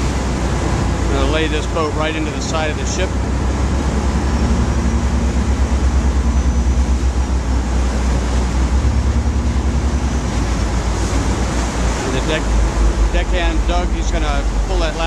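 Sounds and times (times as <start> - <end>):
boat engine rumble: 0.0 - 15.0
water rushing past hull: 0.0 - 15.0.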